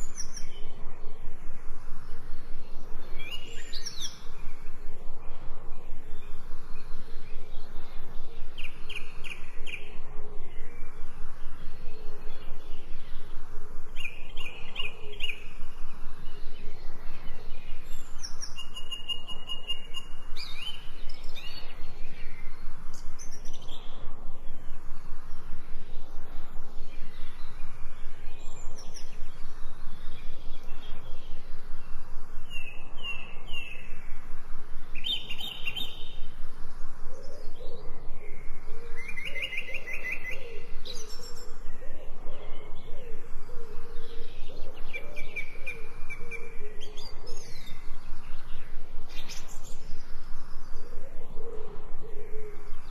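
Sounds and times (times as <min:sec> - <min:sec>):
birds chirping and trilling: 0:00.0 - 0:52.9
steady background hiss: 0:00.0 - 0:52.9.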